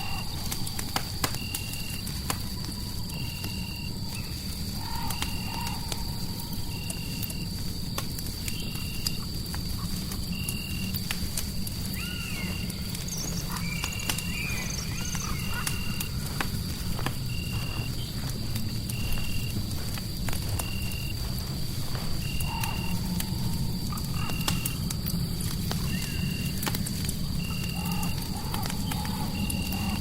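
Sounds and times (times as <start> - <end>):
fireplace crackling: 0.0 - 30.0.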